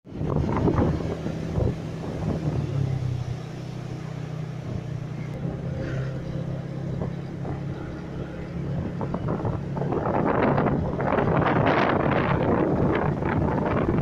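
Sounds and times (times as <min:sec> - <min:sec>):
strong wind: 0:00.0 - 0:14.0
wind buffeting microphone: 0:00.1 - 0:14.0.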